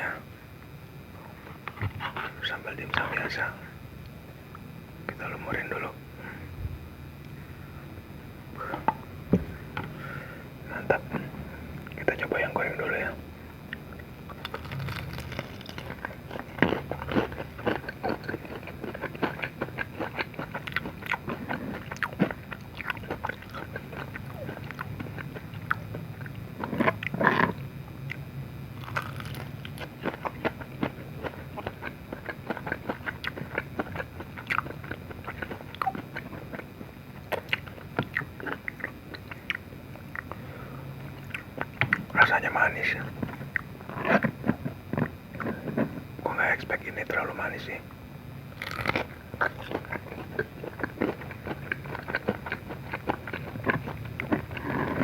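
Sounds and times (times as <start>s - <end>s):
crunchy food chewing: 1.2s - 3.6s, 8.6s - 47.9s, 48.5s - 55.0s.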